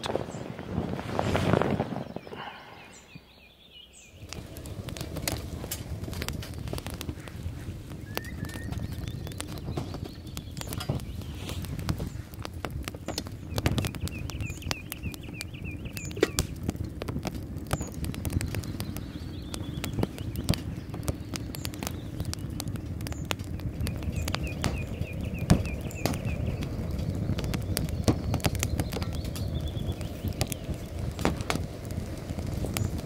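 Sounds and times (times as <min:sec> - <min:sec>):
twigs crackling and popping: 0:00.0 - 0:33.0.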